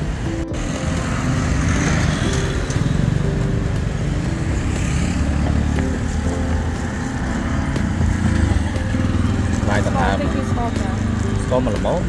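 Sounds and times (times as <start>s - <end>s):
motorbike engine running: 0.0s - 12.0s
street noise: 0.0s - 12.0s.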